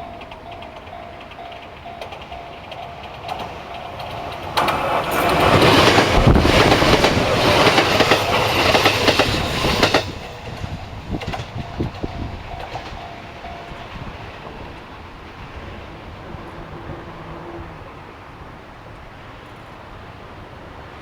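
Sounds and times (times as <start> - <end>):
train passing: 0.0 - 21.0
wheels clicking over rail joints: 0.0 - 21.0.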